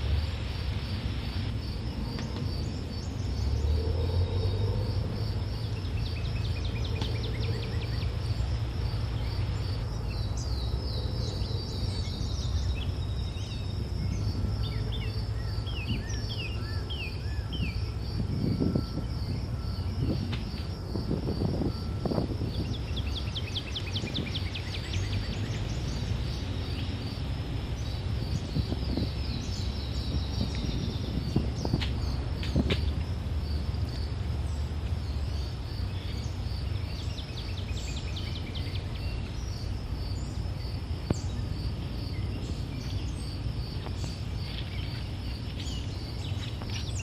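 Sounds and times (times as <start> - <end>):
insect chirring: 0.0 - 47.0.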